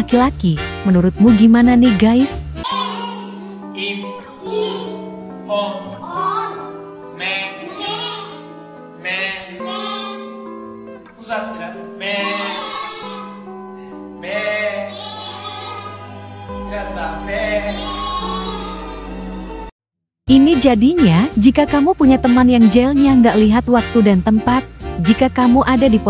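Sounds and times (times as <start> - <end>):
instrumental backing music: 0.0 - 19.7, 20.3 - 26.0.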